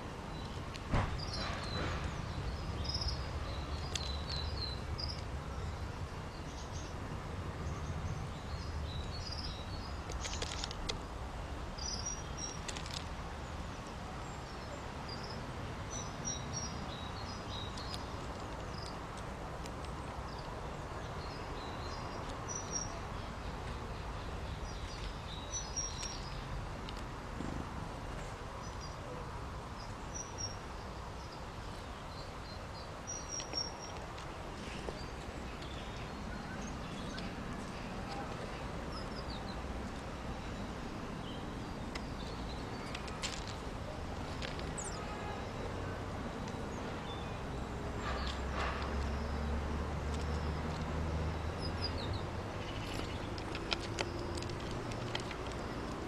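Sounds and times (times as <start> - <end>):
small birds chirping: 0.2 - 27.2, 28.1 - 56.0.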